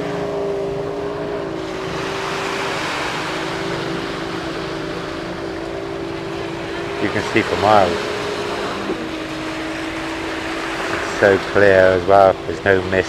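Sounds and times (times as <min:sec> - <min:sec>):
engine running steadily: 0:00.0 - 0:13.0
surf: 0:00.0 - 0:13.0.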